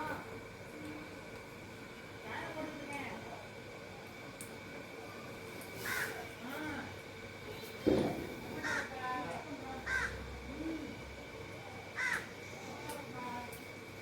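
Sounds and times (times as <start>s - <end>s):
soft low chatter: 0.0s - 14.0s.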